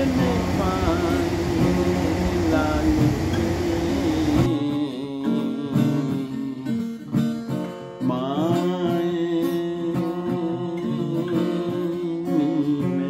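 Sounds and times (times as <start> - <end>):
person singing: 0.0 - 13.0
plucked acoustic guitar: 0.0 - 13.0.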